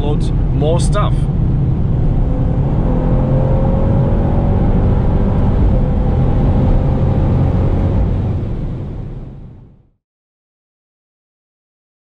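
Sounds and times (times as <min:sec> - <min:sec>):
car engine running: 0:00.0 - 0:09.8
road and tyre noise: 0:00.0 - 0:09.9.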